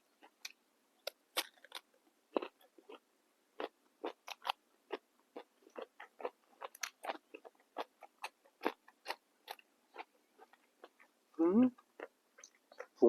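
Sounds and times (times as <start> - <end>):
chewing crunchy raw vegetables: 0.1 - 13.0.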